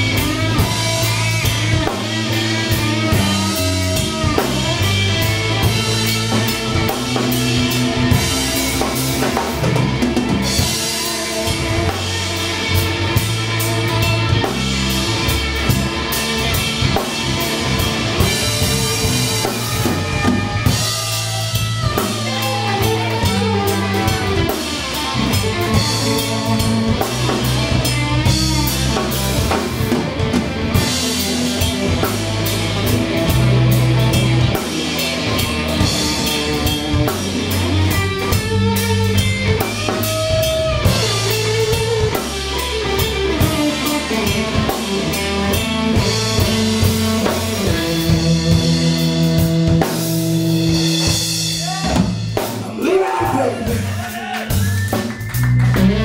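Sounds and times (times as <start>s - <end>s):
blues band playing: 0.0s - 56.0s
electric guitar lead: 0.0s - 56.0s.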